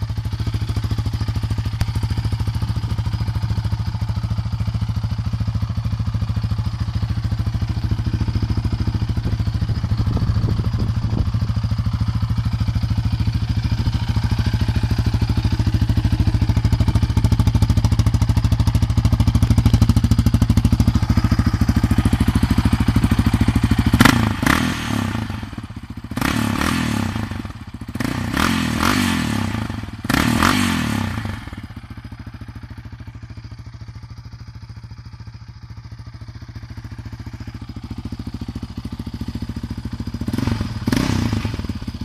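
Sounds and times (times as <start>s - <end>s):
quad bike engine idling and revving: 0.0s - 42.0s.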